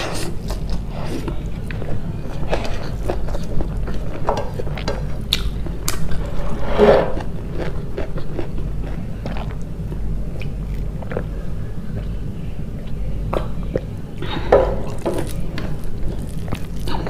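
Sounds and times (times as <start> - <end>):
person biting and chewing food: 0.0 - 6.5, 7.1 - 12.1, 14.7 - 17.0
low hum: 0.0 - 17.0.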